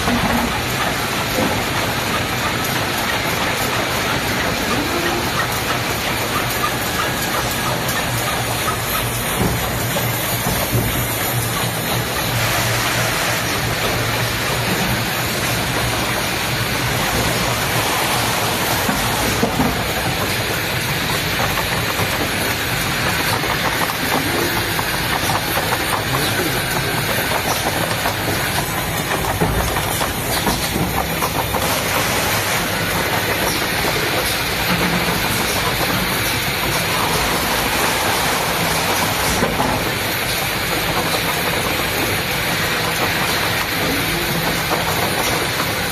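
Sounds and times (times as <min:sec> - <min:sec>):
fast irregular machine clicks: 0:00.0 - 0:45.9
machinery hum: 0:00.0 - 0:45.9.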